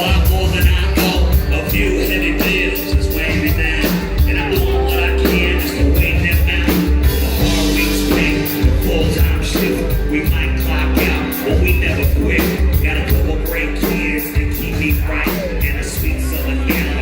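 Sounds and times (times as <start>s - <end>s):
heavy bass: 0.0s - 17.0s
held guitar or keyboard notes: 0.0s - 17.0s
steady drum beat: 0.0s - 17.0s
vocals: 0.0s - 17.0s.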